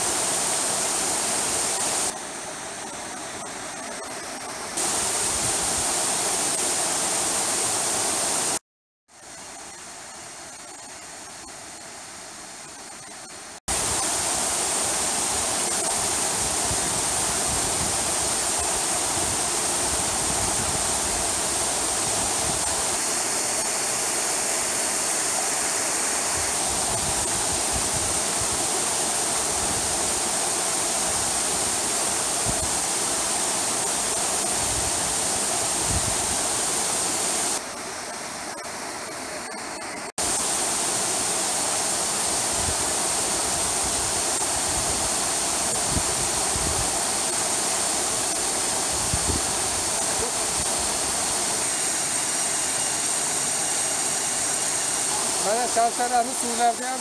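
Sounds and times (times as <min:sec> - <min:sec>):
waterfall rushing: 0:00.0 - 0:08.6, 0:13.7 - 0:57.0.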